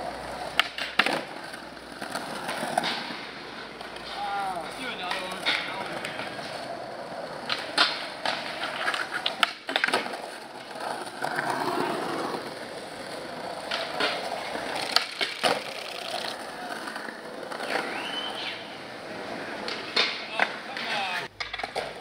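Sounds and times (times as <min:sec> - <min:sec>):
skateboard clacking on ground: 0:00.0 - 0:22.0
skateboard wheels rolling on concrete: 0:00.0 - 0:22.0.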